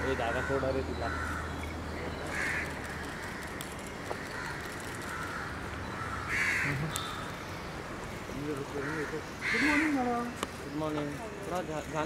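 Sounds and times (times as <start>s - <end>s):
birds calling: 0.0s - 12.0s
outdoor background noise: 0.0s - 12.0s.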